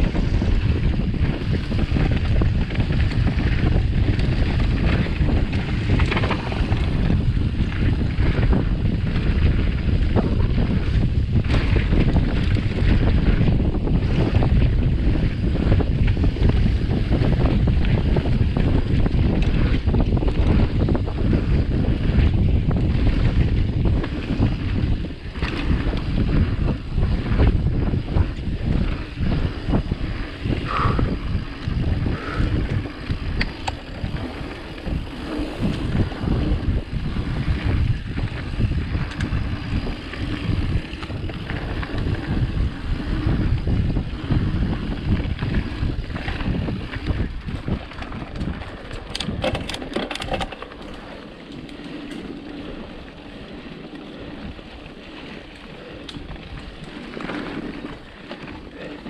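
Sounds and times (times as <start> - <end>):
bike rattling and knocking: 0.0 - 59.0
bike tyres rumbling on dirt: 0.0 - 59.0
wind buffeting microphone: 0.0 - 59.0.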